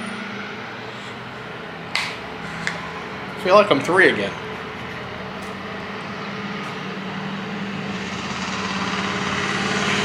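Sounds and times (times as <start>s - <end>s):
motor humming steadily: 0.0s - 10.0s.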